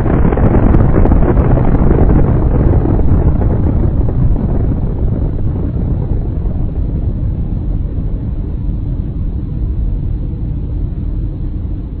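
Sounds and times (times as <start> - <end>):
deep explosion rumble: 0.0 - 12.0.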